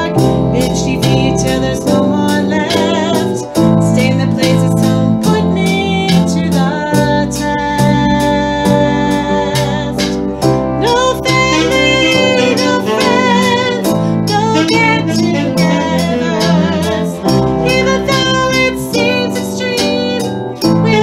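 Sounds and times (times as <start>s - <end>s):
person singing with vibrato: 0.0s - 21.0s.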